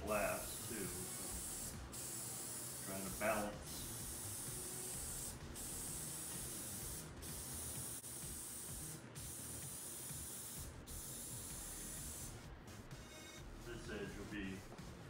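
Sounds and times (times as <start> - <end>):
aerosol spray hissing: 0.1 - 12.5.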